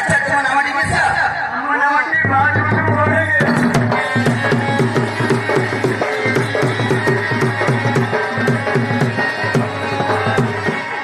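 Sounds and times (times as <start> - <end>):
fast folk drumming: 2.2 - 11.0.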